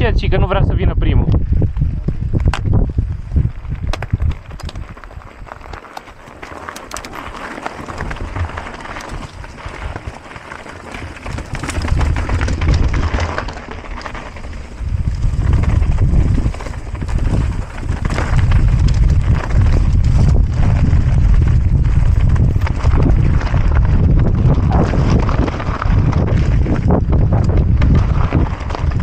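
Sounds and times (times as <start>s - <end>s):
wind buffeting microphone: 0.0s - 5.8s, 6.5s - 29.0s
bike tyres rolling over stones: 0.0s - 29.0s
bike rattling clicks: 3.6s - 29.0s.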